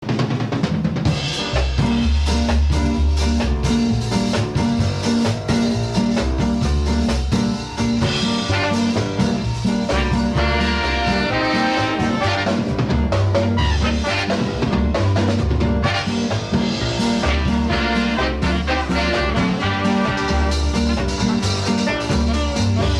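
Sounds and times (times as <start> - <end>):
upbeat swing music with brass: 0.0 - 22.9.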